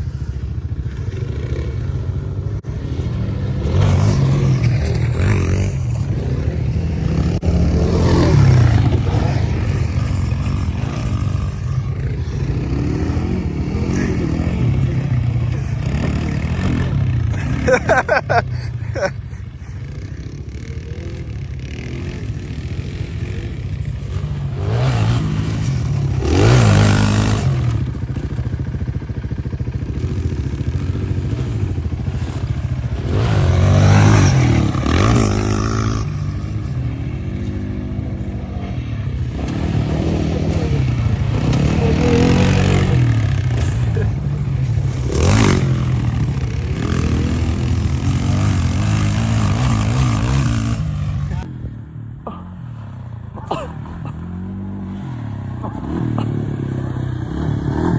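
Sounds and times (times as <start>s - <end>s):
atv engines revving: 0.0s - 57.9s.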